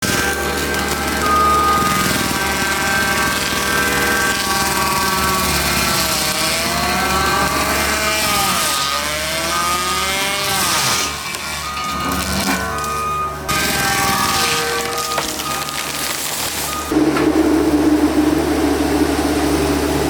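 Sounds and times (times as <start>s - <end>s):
hydraulic tree saw whining: 0.0s - 20.0s.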